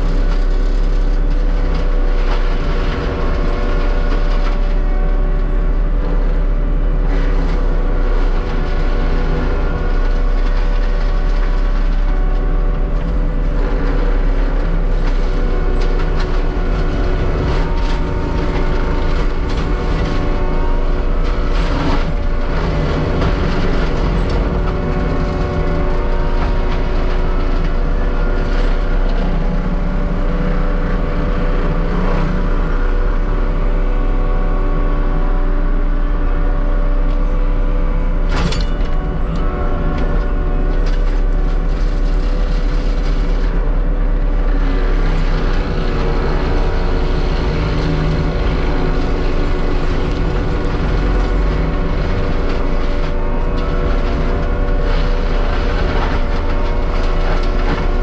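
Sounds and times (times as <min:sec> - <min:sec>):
heavy diesel machine running: 0:00.0 - 0:58.0
steady whining tones: 0:00.0 - 0:58.0.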